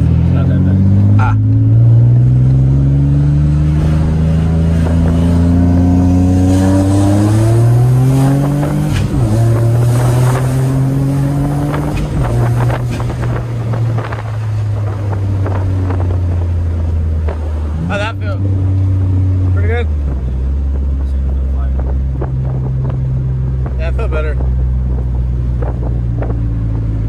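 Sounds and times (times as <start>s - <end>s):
turbocharged car engine accelerating: 0.0s - 27.0s.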